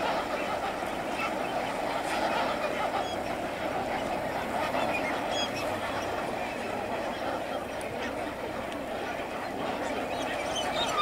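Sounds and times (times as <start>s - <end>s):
flock of flamingos honking: 0.0s - 11.0s.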